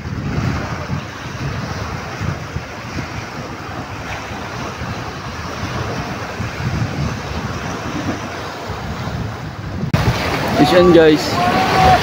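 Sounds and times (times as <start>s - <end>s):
waves washing over rocks: 0.0s - 12.0s
wind buffeting microphone: 0.0s - 12.0s.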